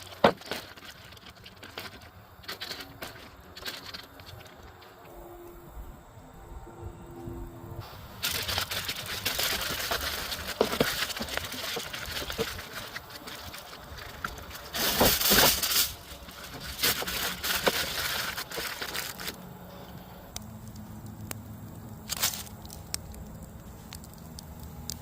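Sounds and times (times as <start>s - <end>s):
crackling and crinkling: 0.0s - 6.0s, 7.8s - 25.0s.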